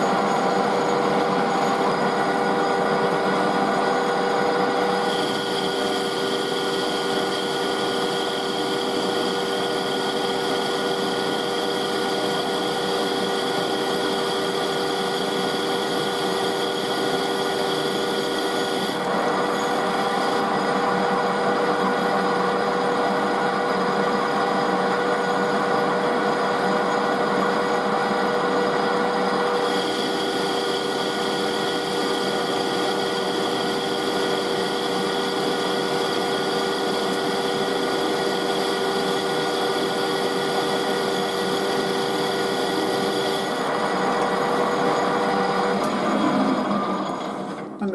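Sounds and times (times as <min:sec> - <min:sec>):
metal lathe machine hum: 0:00.0 - 0:47.9.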